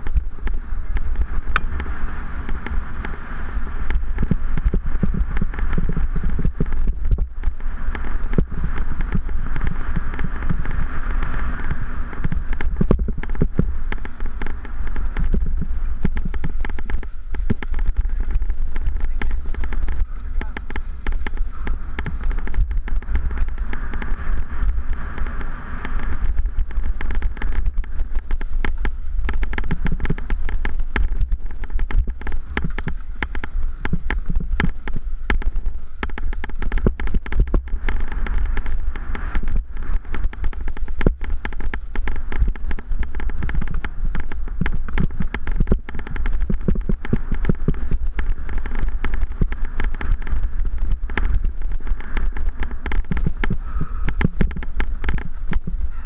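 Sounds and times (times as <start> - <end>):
bike rattling and knocking: 0.0 - 56.0
wind rumble on microphone: 0.0 - 56.0.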